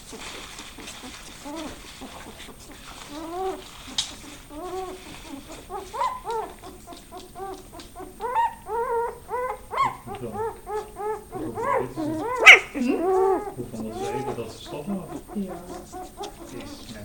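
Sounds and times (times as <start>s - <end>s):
puppies whimpering: 0.0s - 17.0s.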